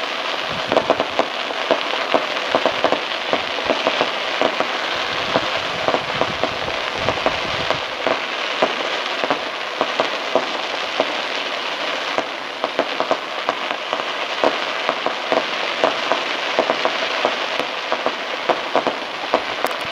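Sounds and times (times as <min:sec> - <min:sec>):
fireworks crackling: 0:00.0 - 0:19.9.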